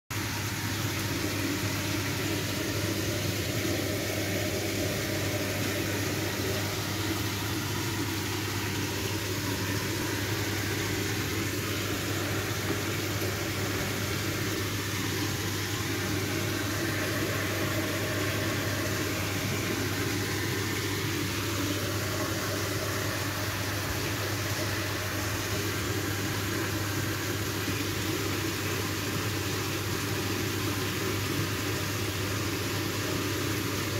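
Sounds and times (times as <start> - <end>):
motor humming with hiss: 0.2 - 33.9.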